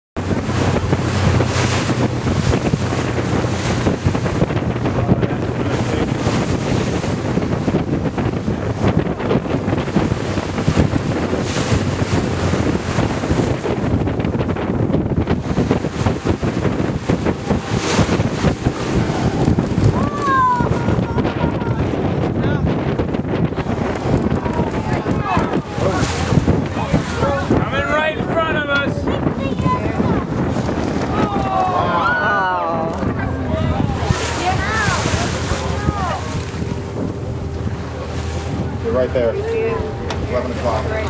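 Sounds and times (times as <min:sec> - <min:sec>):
low engine hum: 0:00.2 - 0:41.0
water noise: 0:00.2 - 0:41.0
wind buffeting microphone: 0:00.2 - 0:41.0.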